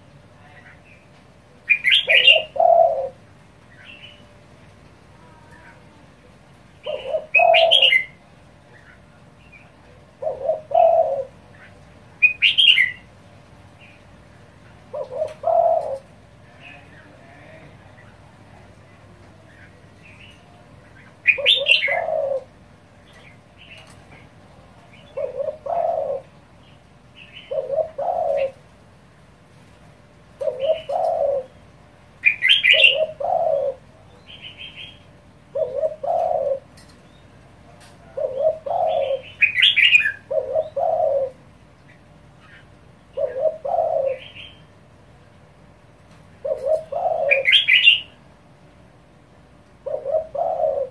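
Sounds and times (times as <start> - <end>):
dove cooing: 1.6 - 4.3, 5.2 - 13.1, 14.7 - 28.8, 30.2 - 36.9, 37.5 - 44.8, 46.2 - 48.2, 49.8 - 50.9.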